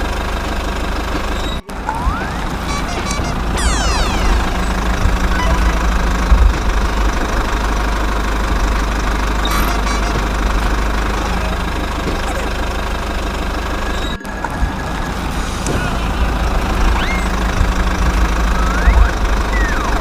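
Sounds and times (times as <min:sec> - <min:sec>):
engine bump: 0:00.0 - 0:20.0
vehicle engine knocking idle: 0:00.0 - 0:20.0.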